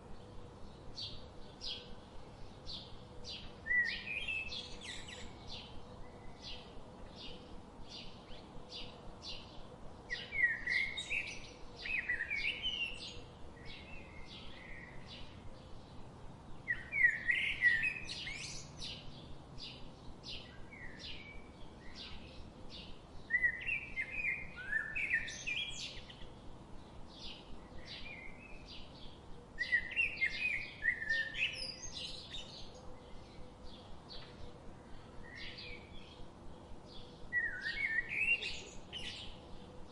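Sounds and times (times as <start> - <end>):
bird warbling song: 0.1 - 39.9.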